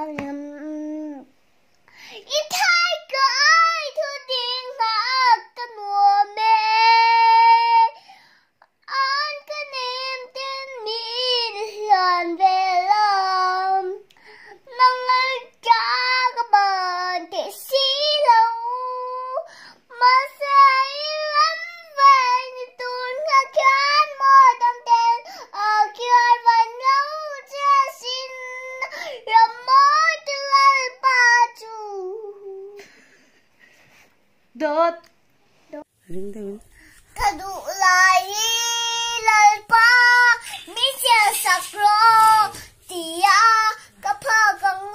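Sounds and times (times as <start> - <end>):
girl singing: 0.0 - 1.3, 2.2 - 32.9, 36.1 - 44.9.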